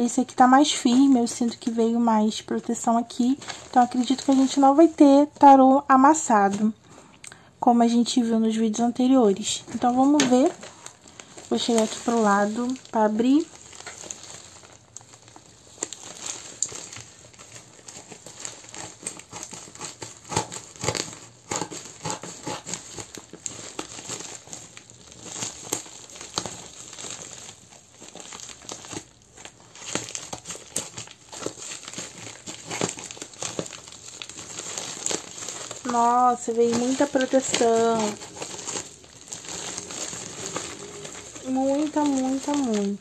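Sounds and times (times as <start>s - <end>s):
packaging crinkling and rustling: 0.0s - 43.0s.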